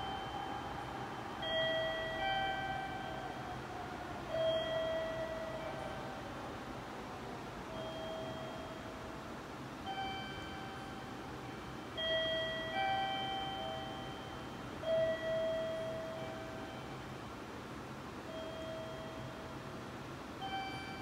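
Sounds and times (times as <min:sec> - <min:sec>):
electronic bell-like chimes: 0:00.0 - 0:06.3, 0:07.7 - 0:09.0, 0:09.8 - 0:17.2, 0:18.3 - 0:19.6, 0:20.4 - 0:21.0.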